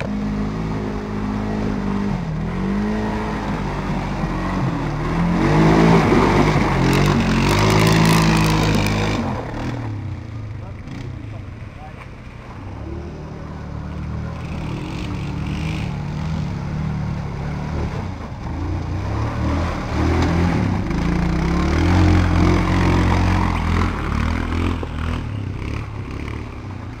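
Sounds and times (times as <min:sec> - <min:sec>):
quad bike engine revving: 0:00.0 - 0:11.6, 0:12.6 - 0:27.0.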